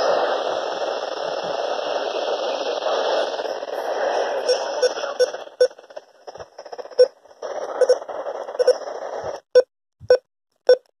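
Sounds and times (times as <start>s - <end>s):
radio receiver static: 0.0s - 9.6s.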